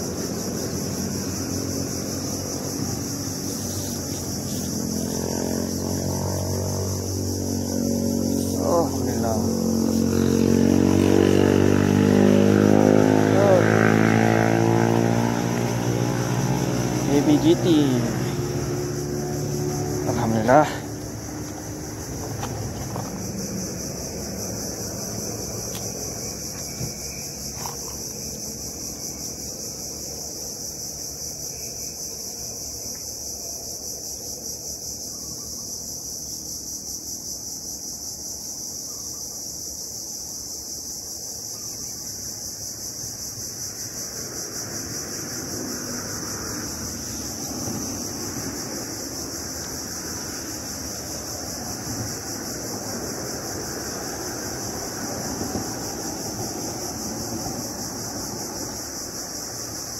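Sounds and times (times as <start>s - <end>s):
insect chorus shrill drone: 0.0s - 59.9s.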